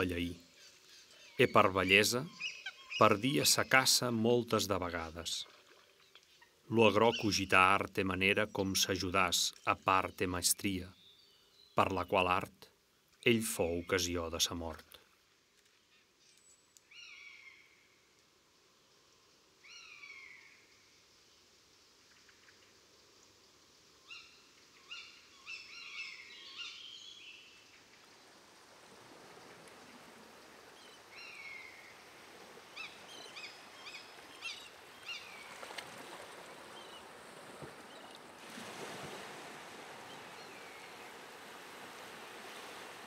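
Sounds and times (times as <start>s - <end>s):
soft water noise: 0.0s - 43.0s.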